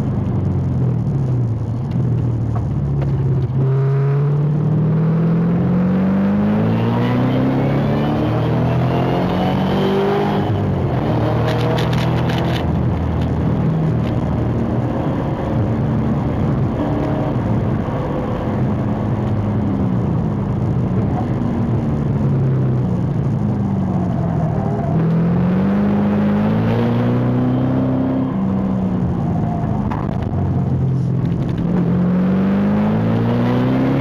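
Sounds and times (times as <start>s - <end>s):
race car engine: 0.0s - 34.0s
wind and road noise: 0.0s - 34.0s.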